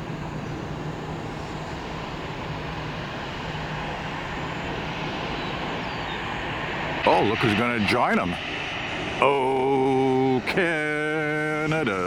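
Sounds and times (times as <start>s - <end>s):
jet engines roaring at takeoff: 0.0s - 12.0s.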